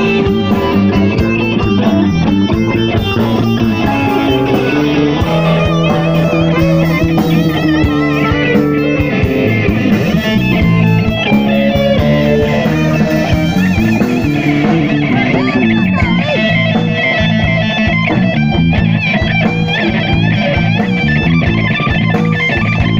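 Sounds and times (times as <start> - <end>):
electric guitar bending notes: 0.0 - 22.9
live blues band playing: 0.0 - 22.9.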